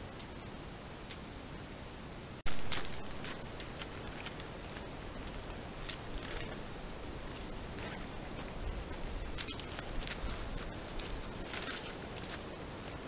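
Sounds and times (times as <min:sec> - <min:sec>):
steady hiss: 0:00.0 - 0:13.0
elk teeth cropping dry grass: 0:02.5 - 0:13.0.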